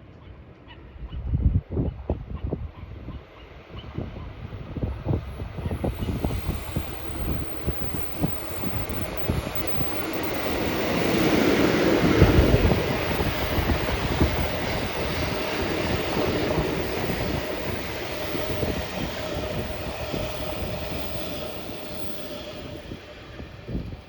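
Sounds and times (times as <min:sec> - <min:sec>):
faint steady whine: 0:04.2 - 0:24.0.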